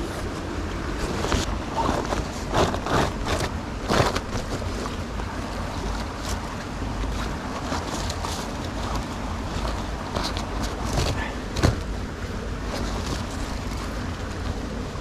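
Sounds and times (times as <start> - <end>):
rustling knocks and scrapes: 0.0 - 5.0, 5.8 - 12.0, 12.6 - 14.4.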